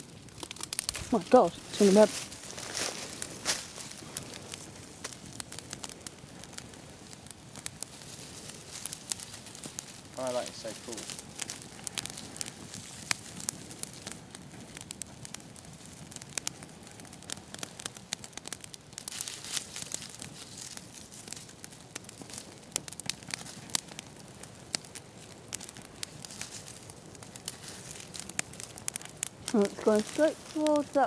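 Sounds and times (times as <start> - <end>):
small fire crackling: 0.0 - 31.0
tinder and sticks rustling: 0.0 - 31.0.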